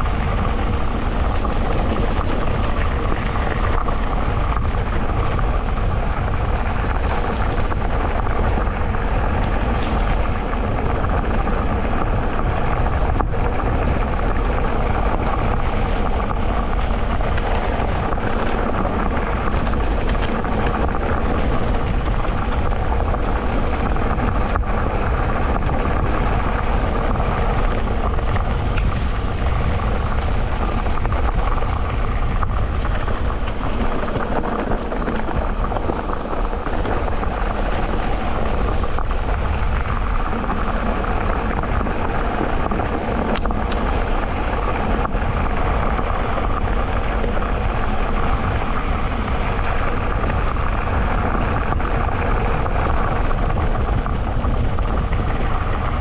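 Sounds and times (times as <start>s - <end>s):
bike tyres rolling on dirt: 0.0s - 56.0s
low rumble: 0.0s - 56.0s.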